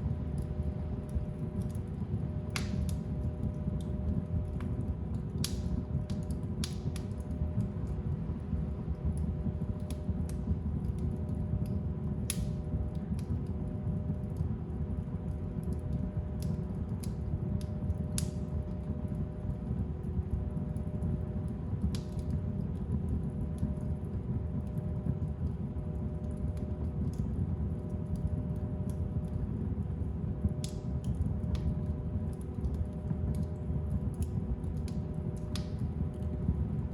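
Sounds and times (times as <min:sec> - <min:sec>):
fire crackling and popping: 0:00.0 - 0:36.9
low rumble of flames: 0:00.0 - 0:36.9.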